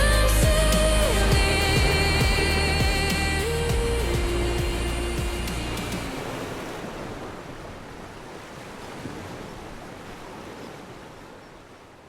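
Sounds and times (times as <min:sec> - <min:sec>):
ocean surf washing in: 0:00.0 - 0:10.7.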